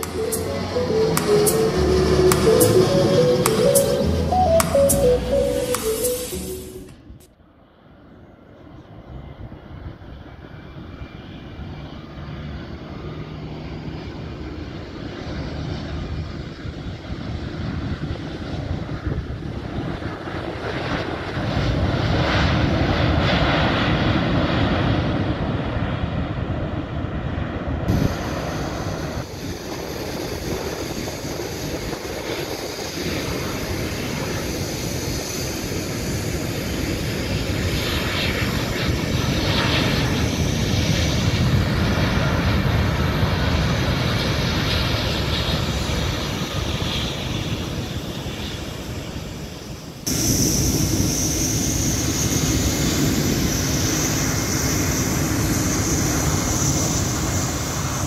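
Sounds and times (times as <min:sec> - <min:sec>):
airliner engines on approach: 0:00.0 - 0:58.0
airliner rolling out on runway: 0:00.0 - 0:58.0
jet airliner engines: 0:00.0 - 0:58.0.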